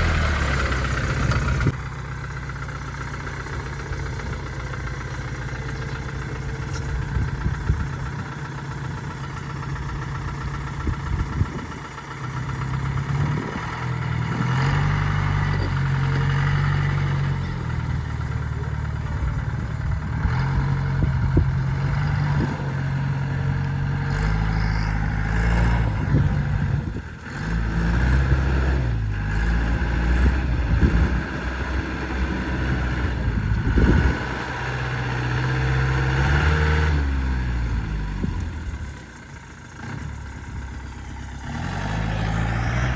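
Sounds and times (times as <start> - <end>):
vehicle engine revving: 0.0 - 2.0, 3.4 - 42.9.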